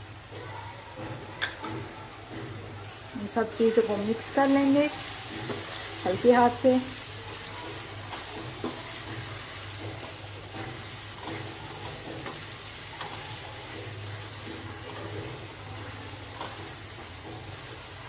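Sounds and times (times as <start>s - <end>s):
vegetables sizzling in oil: 0.0s - 18.0s
spatula scraping pan: 0.3s - 18.0s.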